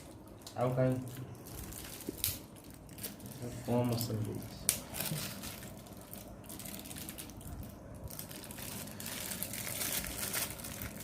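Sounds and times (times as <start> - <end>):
food wrapping crinkling: 0.0 - 11.0.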